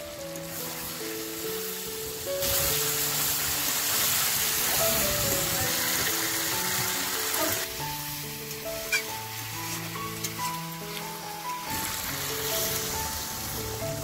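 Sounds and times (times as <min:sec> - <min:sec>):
background music: 0:00.0 - 0:14.0
chicken sizzling in a pan: 0:00.0 - 0:14.0
water poured into a pan: 0:00.4 - 0:14.0.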